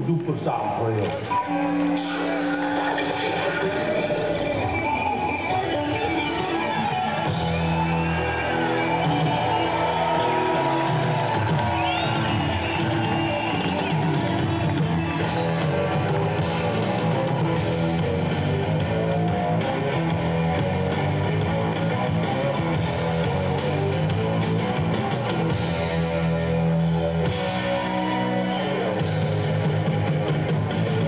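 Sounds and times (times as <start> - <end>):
rock music over pa: 0.0 - 31.0.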